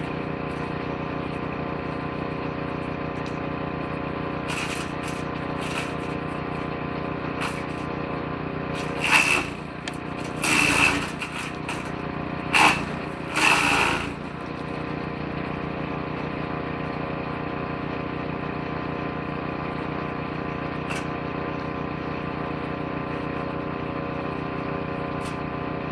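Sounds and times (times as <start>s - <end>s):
woodchipper engine running: 0.0s - 25.9s.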